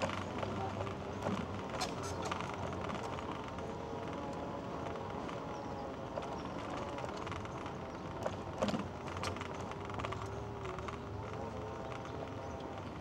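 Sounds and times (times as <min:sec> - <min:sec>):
city street traffic hum: 0:00.0 - 0:13.0
wheels rolling on rough concrete: 0:00.0 - 0:13.0.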